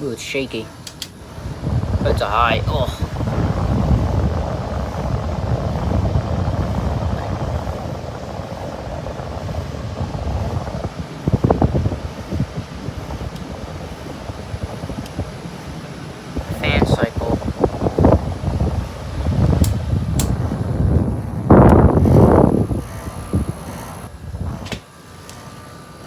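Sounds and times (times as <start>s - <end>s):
air conditioner running: 0.0s - 26.0s.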